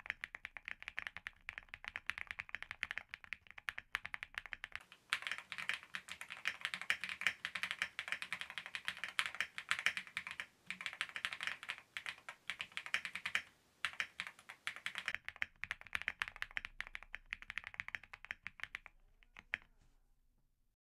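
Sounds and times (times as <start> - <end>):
mechanical keyboard typing: 0.0 - 19.7.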